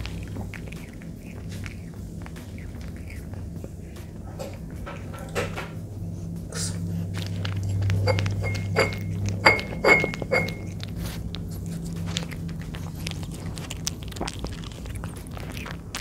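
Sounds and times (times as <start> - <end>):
cat chewing wet food: 0.0 - 16.0
low hum: 0.0 - 16.0.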